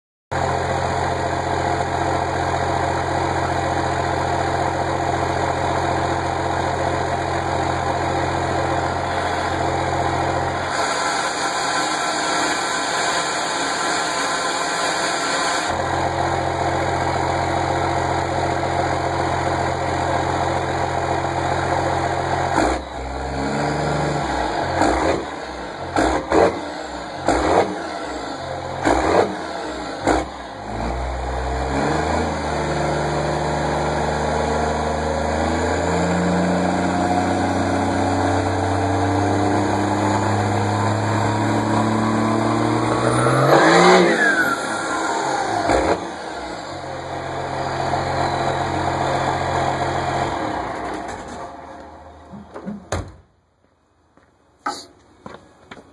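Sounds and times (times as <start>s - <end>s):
diesel engine idling and revving: 0.3s - 52.9s.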